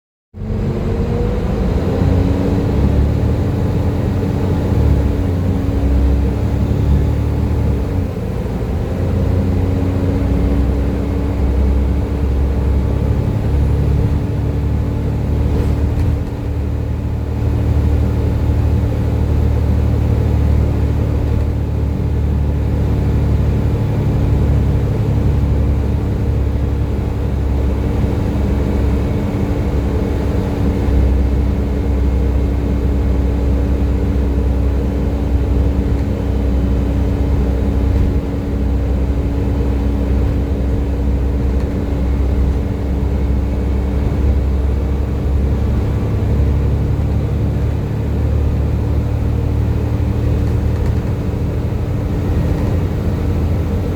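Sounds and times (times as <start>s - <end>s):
bus diesel engine rumble: 0.4s - 53.9s.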